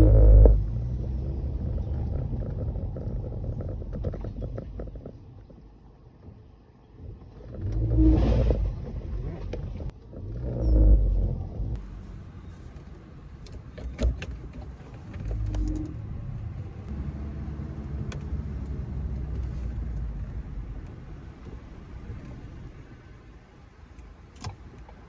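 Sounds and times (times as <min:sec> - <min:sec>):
car engine and drivetrain noise: 0:00.0 - 0:25.0.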